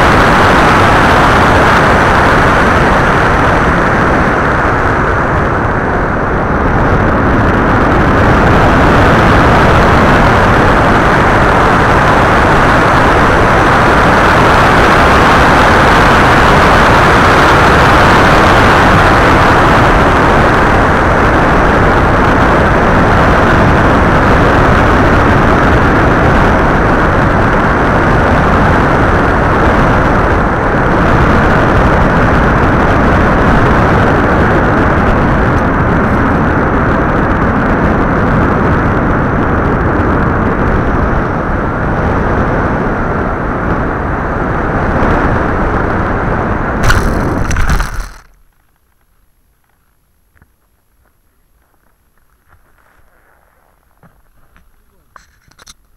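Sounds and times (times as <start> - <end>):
wind buffeting microphone: 0.0 - 48.4
propeller noise: 0.0 - 55.9.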